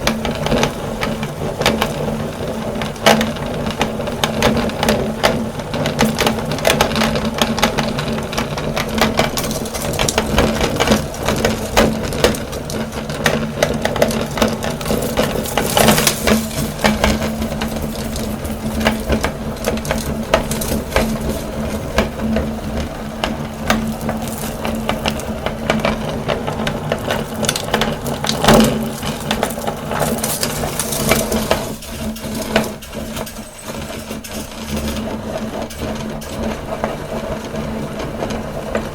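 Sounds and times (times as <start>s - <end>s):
candy crunching and crackling: 0.0s - 38.6s
meat grinder motor hum: 0.0s - 38.9s.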